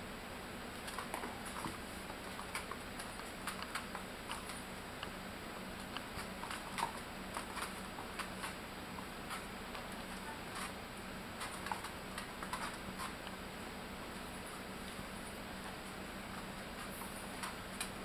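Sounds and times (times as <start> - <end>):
puppy paws pattering and clicking: 0.7 - 5.2, 5.8 - 13.4, 14.0 - 18.0.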